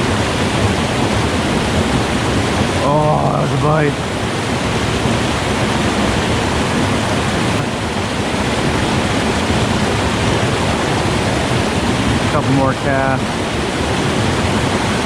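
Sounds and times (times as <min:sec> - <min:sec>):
stream pouring over waterfall: 0:00.0 - 0:15.0.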